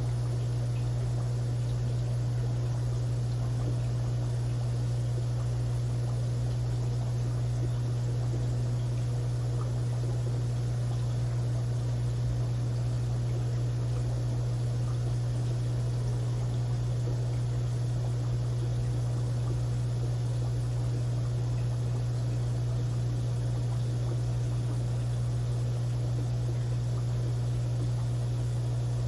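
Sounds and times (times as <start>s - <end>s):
aquarium filter humming: 0.0s - 29.0s.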